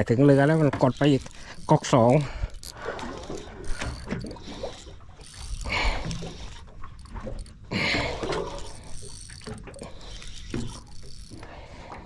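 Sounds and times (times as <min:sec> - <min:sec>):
sea noise: 0:00.0 - 0:12.0
wind: 0:00.0 - 0:12.0
fishing reel drag ticking: 0:00.1 - 0:12.0.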